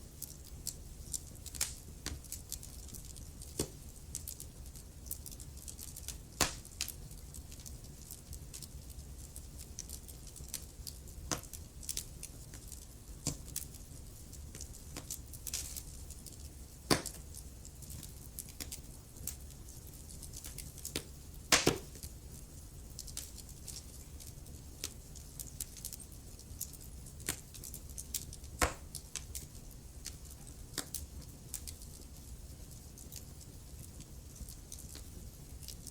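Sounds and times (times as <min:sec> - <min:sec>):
logs crackling and snapping: 0:00.2 - 0:22.1, 0:22.9 - 0:26.0, 0:26.6 - 0:32.1.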